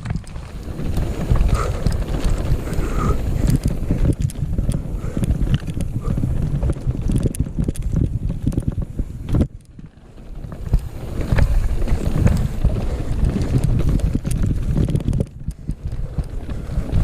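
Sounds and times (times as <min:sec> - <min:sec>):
bike clattering over rocks: 0:00.0 - 0:17.0
tyres rumbling on dirt: 0:00.0 - 0:17.0
wind buffeting microphone: 0:00.0 - 0:17.0.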